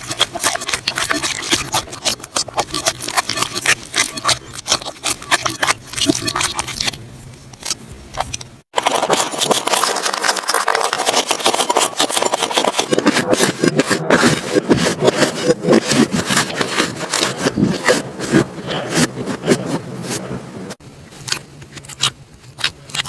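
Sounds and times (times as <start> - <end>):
slime crackling and scraping: 0.0 - 23.0.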